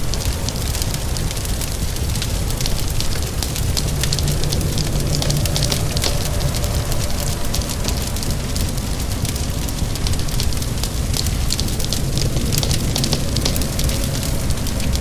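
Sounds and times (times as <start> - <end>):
low rumble: 0.0 - 15.0
rain hissing: 0.0 - 15.0
wood fire crackling: 0.0 - 15.0.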